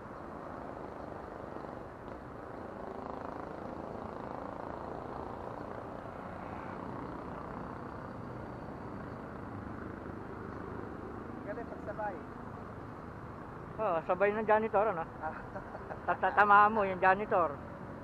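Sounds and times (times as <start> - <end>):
distant road traffic hum: 0.0 - 18.0.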